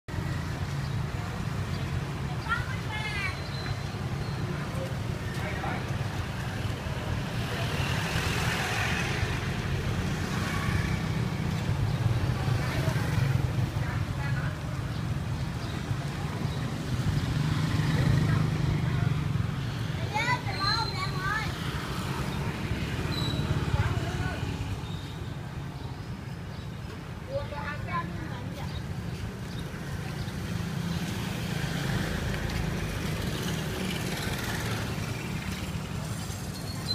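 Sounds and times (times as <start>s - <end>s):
motor scooter engines: 0.1s - 36.9s.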